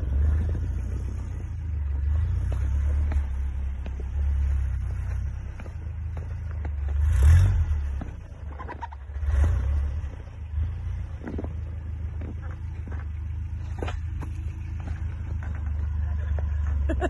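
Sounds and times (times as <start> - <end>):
engine rumbling and revving: 0.0 - 17.0.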